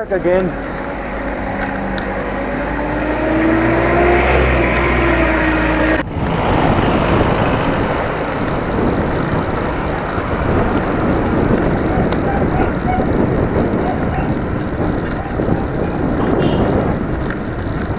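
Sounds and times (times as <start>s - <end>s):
steady rushing noise: 0.0s - 17.9s
vehicle engine accelerating: 0.0s - 17.9s.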